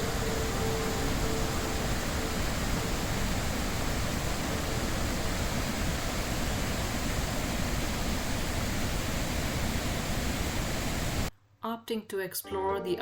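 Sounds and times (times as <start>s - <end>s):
waterfall rushing: 0.0s - 11.3s.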